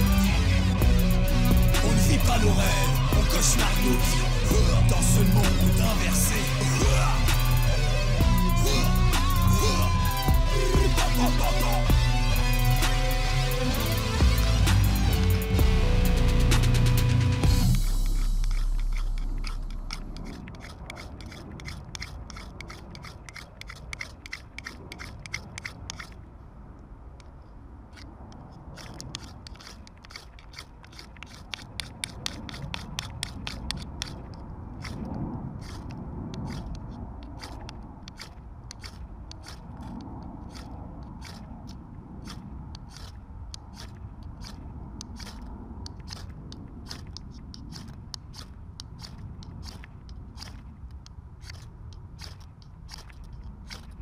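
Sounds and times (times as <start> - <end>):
knife scraping wooden stick: 0.0 - 26.4, 27.2 - 54.0.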